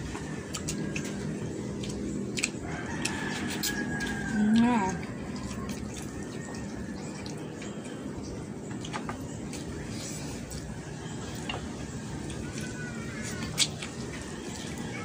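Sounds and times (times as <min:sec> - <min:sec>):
chewing and mouth smacking: 0:00.0 - 0:15.0
low background hum: 0:00.0 - 0:15.0.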